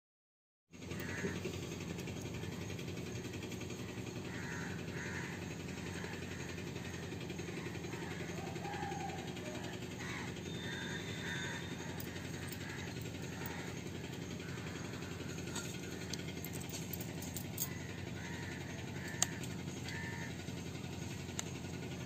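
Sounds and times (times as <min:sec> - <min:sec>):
outdoor background rumble: 0:00.7 - 0:22.0
harsh bird calls: 0:00.8 - 0:22.0.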